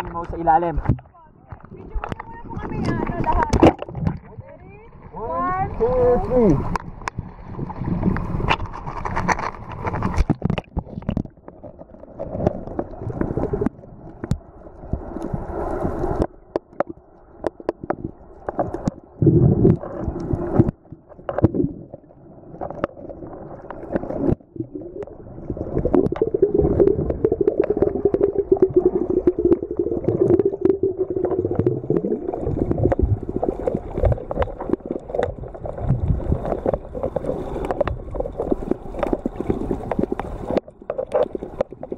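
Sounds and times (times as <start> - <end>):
water gurgling underwater: 0.0 - 41.9.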